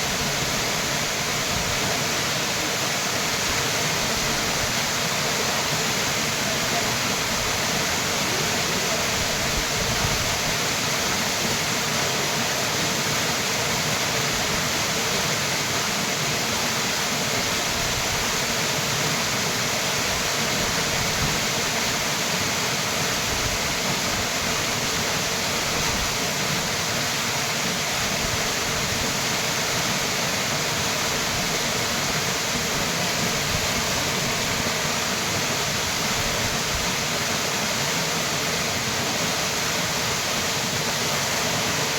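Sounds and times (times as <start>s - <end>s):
small waterfall splashing: 0.0s - 41.9s.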